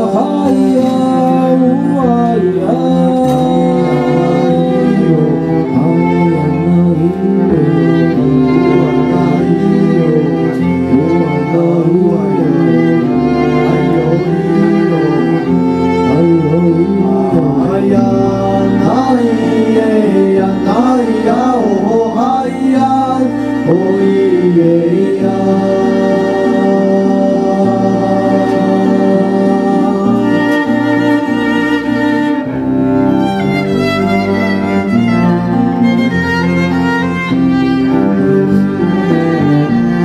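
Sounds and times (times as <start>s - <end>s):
cello: 0.0s - 40.0s
double bass: 0.0s - 40.0s
person singing: 0.0s - 40.0s
violin: 0.0s - 40.0s.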